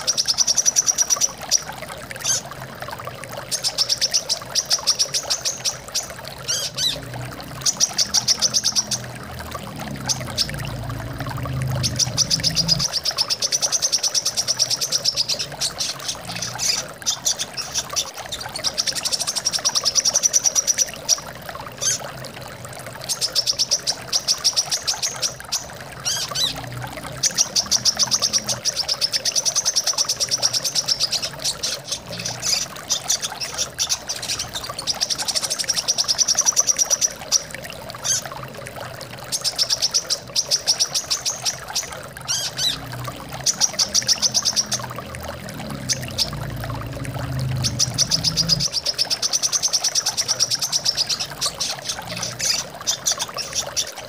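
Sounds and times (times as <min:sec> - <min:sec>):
running water: 0:00.0 - 0:54.0.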